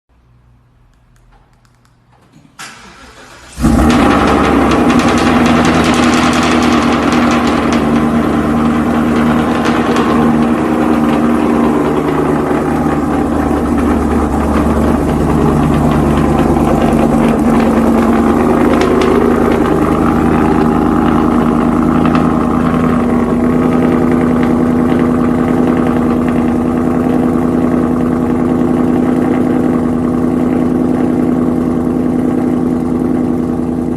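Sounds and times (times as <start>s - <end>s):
car engine idling: 2.6s - 33.9s.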